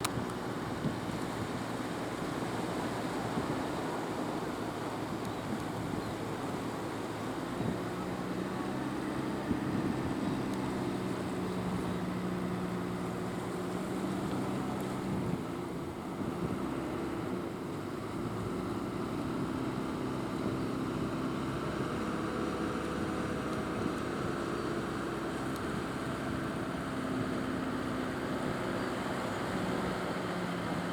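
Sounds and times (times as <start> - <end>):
boat engine drone: 0.0 - 30.9
boat engines running: 0.0 - 30.9.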